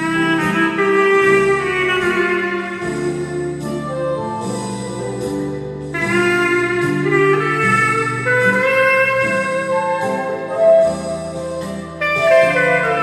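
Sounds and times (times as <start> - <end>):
chordal backing accompaniment: 0.0 - 13.0
clarinet melody: 0.0 - 13.0.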